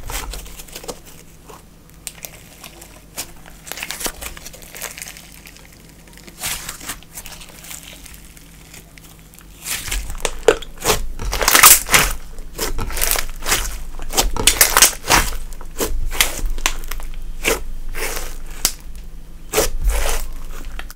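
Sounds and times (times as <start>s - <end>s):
slime kneaded by hand: 0.0s - 20.9s.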